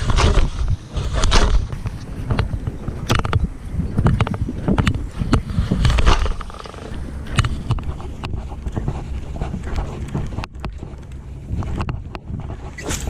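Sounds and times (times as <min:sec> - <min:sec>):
boat engine low rumble: 0:00.0 - 0:13.0
sharp clicks and knocks: 0:00.0 - 0:13.0
wind buffeting microphone: 0:00.0 - 0:13.0.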